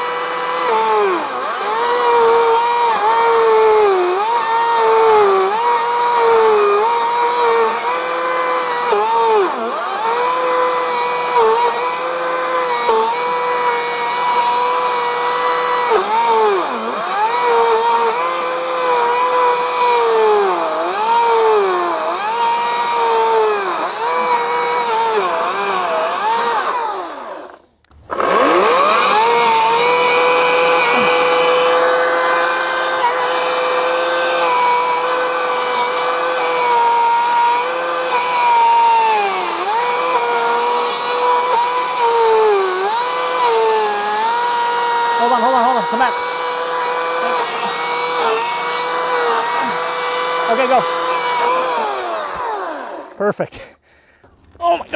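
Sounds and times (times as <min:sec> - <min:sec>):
chainsaw cutting wood: 0:00.0 - 0:53.2.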